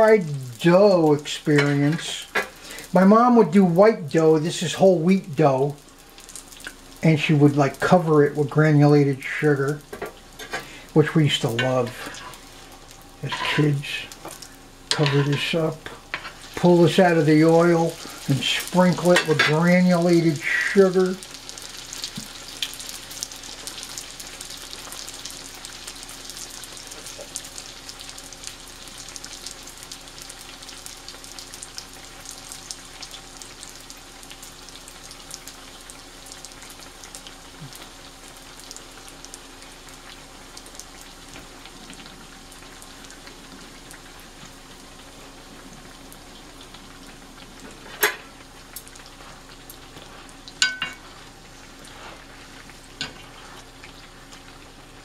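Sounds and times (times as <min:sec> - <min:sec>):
dough sizzling in hot oil: 0:00.0 - 0:55.0
faint steady hum: 0:00.0 - 0:55.0.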